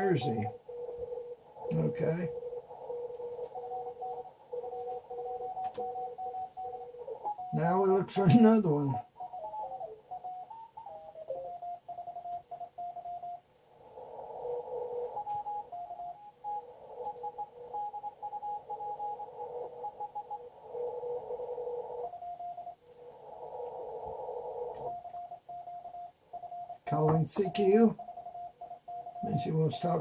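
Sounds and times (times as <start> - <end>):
radio band hiss: 0.0 - 9.6, 13.6 - 25.4, 26.7 - 30.0
morse code beeps: 0.0 - 13.4, 14.8 - 22.8, 23.6 - 30.0.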